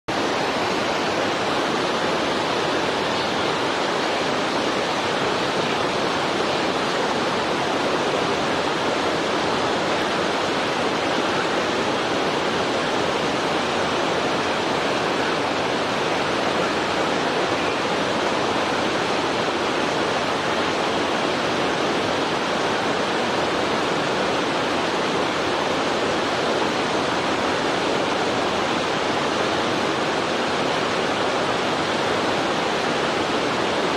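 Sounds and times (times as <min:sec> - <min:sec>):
steady rushing noise: 0:00.1 - 0:33.9.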